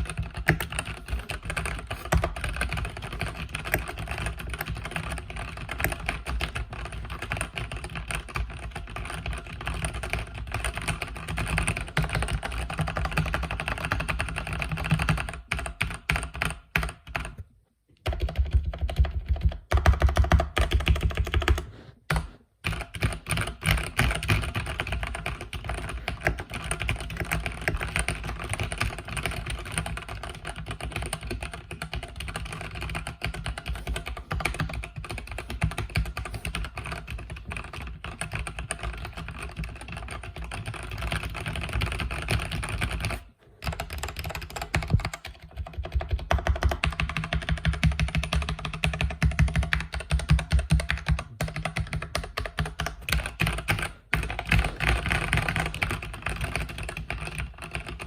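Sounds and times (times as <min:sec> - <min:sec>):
mechanical keyboard typing: 0:00.0 - 0:17.4, 0:18.0 - 0:58.0.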